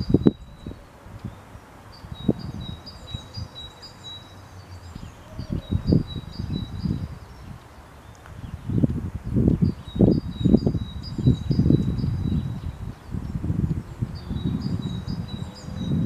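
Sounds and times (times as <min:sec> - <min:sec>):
small birds chirping: 0:00.0 - 0:16.0
wind rumbling on microphone: 0:00.0 - 0:16.0.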